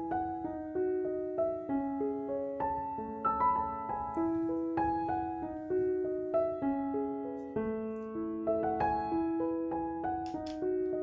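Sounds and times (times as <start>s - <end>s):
piano melody: 0.0s - 11.0s.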